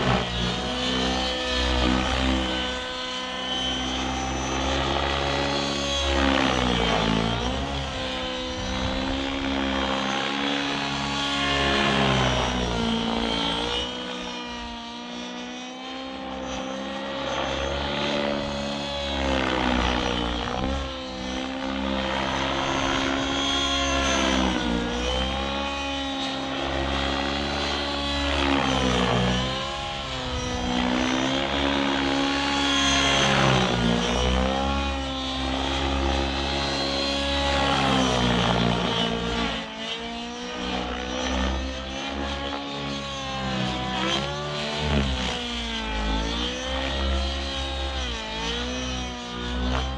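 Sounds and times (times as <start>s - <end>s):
model helicopter engine: 0.0s - 49.9s.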